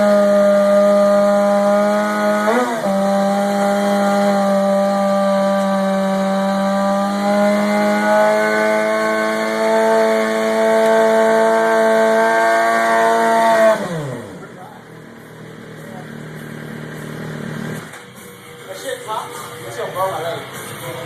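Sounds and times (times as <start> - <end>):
motorcycle engine at high revs: 0.0 - 18.2.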